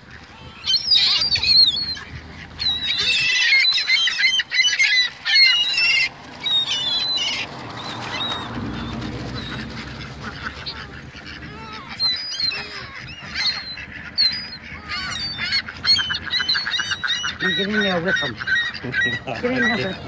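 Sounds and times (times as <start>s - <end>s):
gulls squawking: 0.0s - 20.0s.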